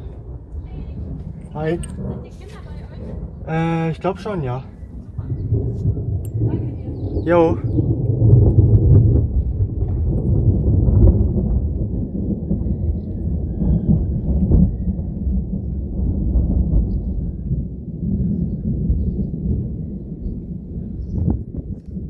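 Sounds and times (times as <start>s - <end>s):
rolling thunder rumbling: 0.0s - 22.0s.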